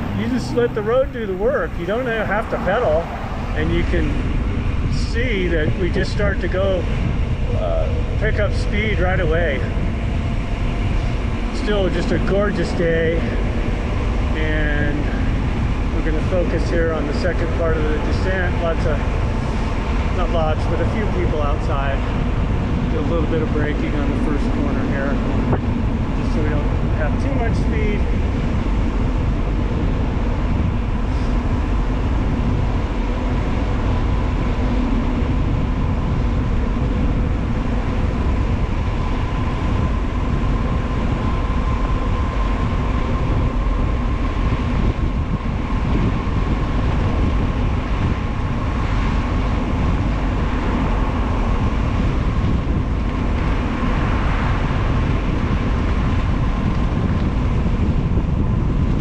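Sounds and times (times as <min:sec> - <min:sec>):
faint high whine: 0:00.0 - 0:56.7
wind rush over microphone: 0:00.0 - 0:59.0.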